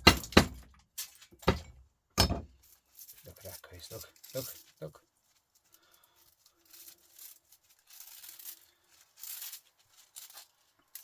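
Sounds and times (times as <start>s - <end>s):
metal parts scraping and rustling: 0.0s - 11.0s.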